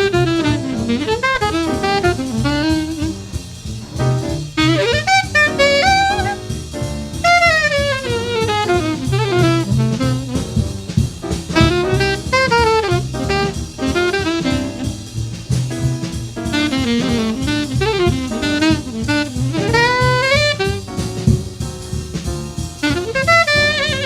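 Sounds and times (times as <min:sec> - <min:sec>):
alto saxophone playing fast lines: 0:00.0 - 0:24.0
bass: 0:00.0 - 0:24.0
drums: 0:00.0 - 0:24.0.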